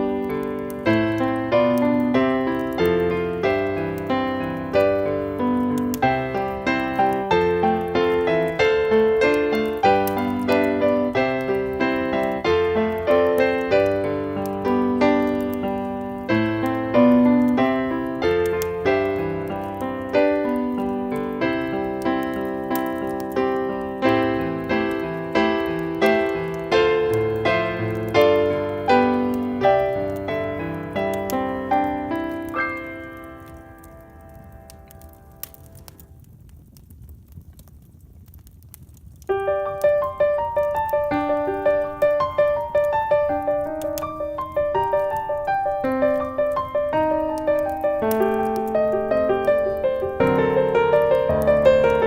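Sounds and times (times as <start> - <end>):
piano music: 0.0 - 36.0, 39.3 - 52.0.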